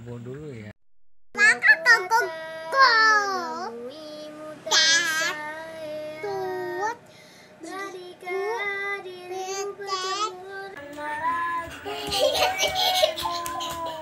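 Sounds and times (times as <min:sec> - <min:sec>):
small child singing: 0:01.4 - 0:07.0, 0:07.6 - 0:14.0.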